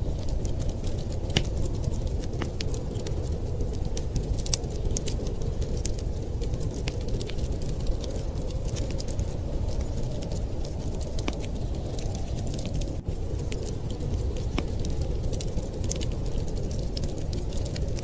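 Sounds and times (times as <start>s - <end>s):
low wind rumble: 0.0s - 18.0s
wood fire crackling and popping: 0.0s - 18.0s.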